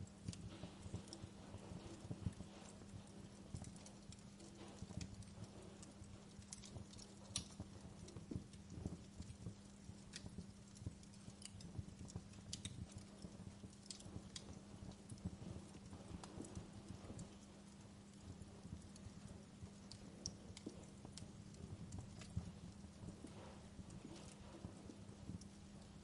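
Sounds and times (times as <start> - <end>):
faint steady hum: 0.0 - 26.0
wood fire crackling: 0.0 - 26.0.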